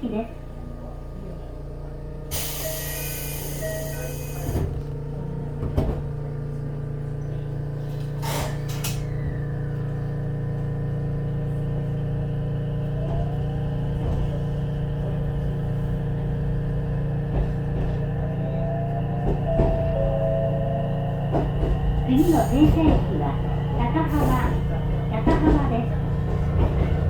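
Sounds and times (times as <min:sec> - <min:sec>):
train machinery humming: 0:00.0 - 0:27.0
train motor whine: 0:02.0 - 0:06.3, 0:07.0 - 0:27.0.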